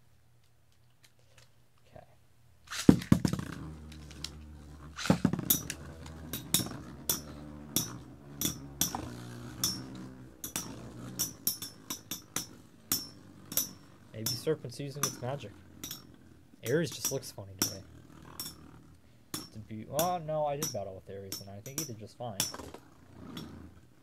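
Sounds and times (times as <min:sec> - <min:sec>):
spinning tops clattering into stadium: 0:02.7 - 0:24.0
spinning tops whirring: 0:02.7 - 0:24.0.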